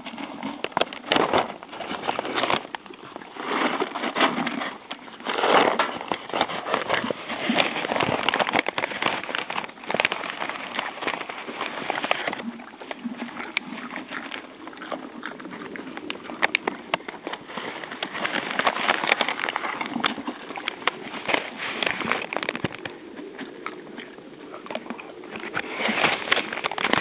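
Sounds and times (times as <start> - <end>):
horses crunching popcorn: 0.0 - 27.0.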